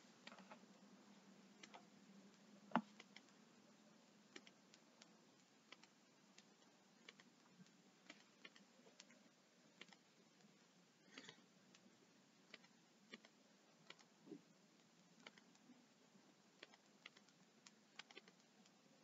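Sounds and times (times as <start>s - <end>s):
small irregular clicks: 0.0s - 19.0s.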